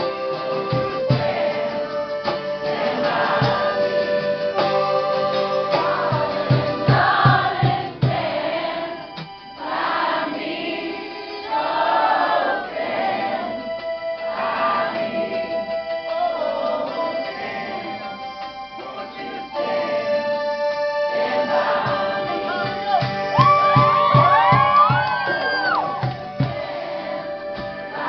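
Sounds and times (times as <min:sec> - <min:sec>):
acoustic guitar: 0:00.0 - 0:28.0
sustained keyboard notes: 0:00.0 - 0:28.0
voices singing together: 0:00.0 - 0:28.0.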